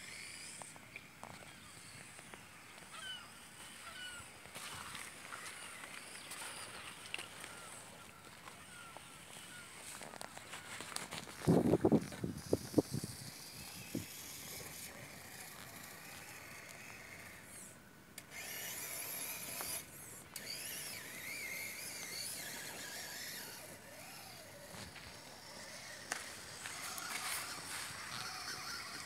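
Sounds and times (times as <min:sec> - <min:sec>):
small electric motor whining: 0:00.0 - 0:29.0.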